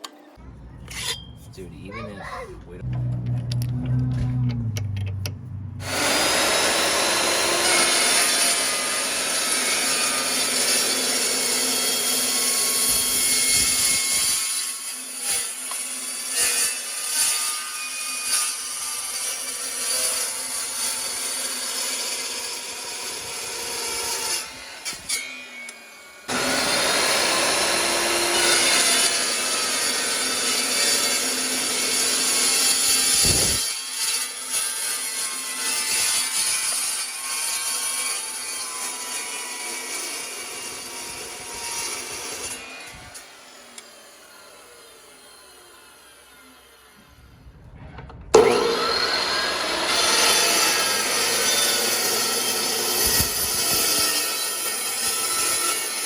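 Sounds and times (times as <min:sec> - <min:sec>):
power tool cutting pipe: 0:05.8 - 0:47.2, 0:48.4 - 0:56.0.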